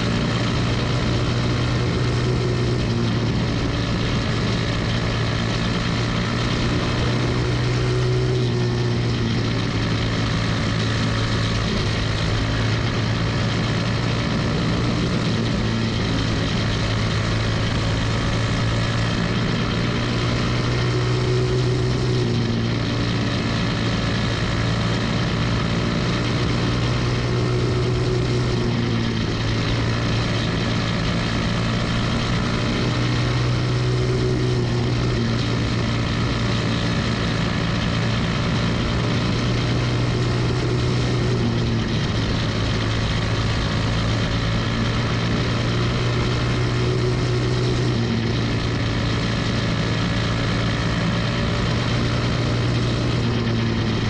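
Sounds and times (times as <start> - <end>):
kart engine running hard: 0.0 - 54.0.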